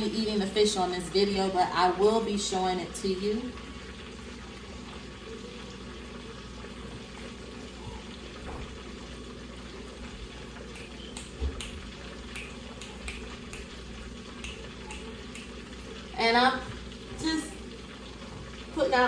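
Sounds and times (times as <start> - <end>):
fish deep-frying in oil: 0.0 - 19.0.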